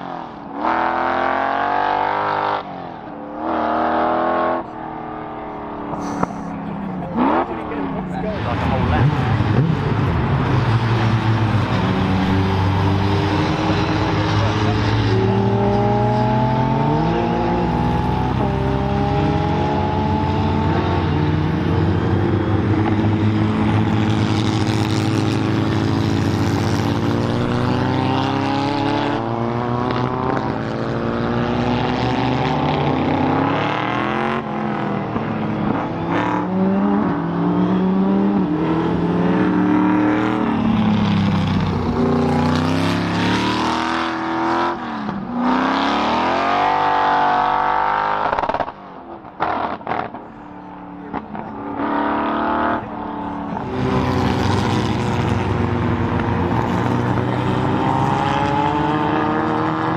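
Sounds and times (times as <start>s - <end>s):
car engines accelerating: 0.0s - 59.9s.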